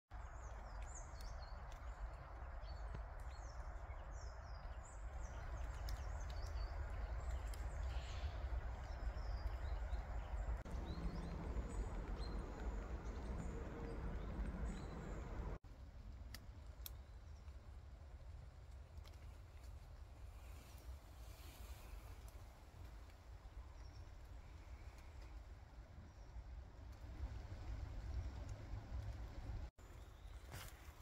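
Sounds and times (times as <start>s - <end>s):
small birds chirping: 0.1s - 15.6s, 19.0s - 31.0s
forest ambience rumble and hiss: 0.2s - 31.0s.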